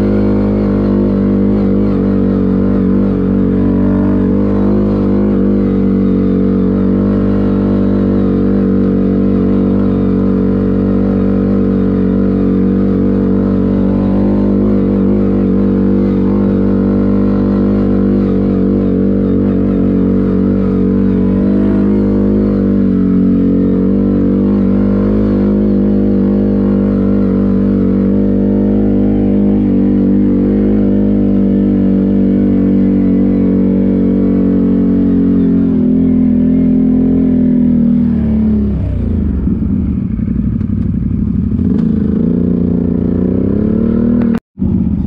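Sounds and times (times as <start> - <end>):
atv engine revving: 0.0 - 45.0.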